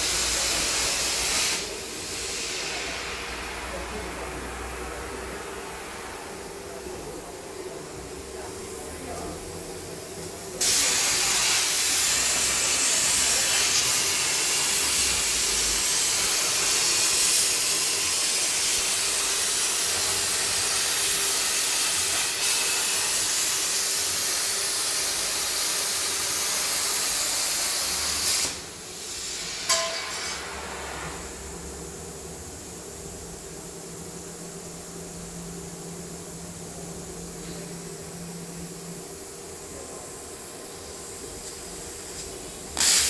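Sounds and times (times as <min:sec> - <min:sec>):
plasma cutting torch hiss: 0:00.0 - 0:04.9, 0:10.5 - 0:37.7, 0:38.5 - 0:43.0.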